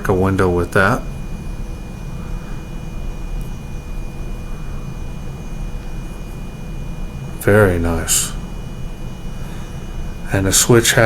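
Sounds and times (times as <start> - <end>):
low room rumble: 0.0 - 11.0
thin high tone: 0.0 - 11.0.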